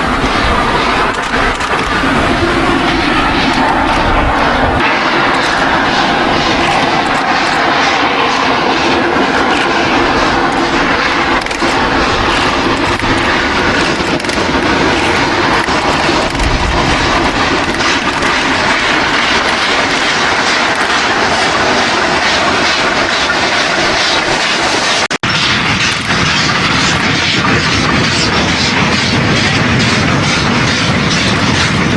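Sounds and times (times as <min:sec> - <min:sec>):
steam locomotive running: 0:00.0 - 0:31.9.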